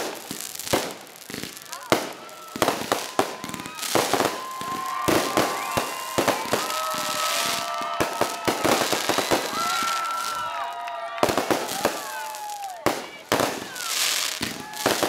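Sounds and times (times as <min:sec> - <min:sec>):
fireworks bangs and pops: 0:00.0 - 0:15.0
firework whistles: 0:00.2 - 0:15.0.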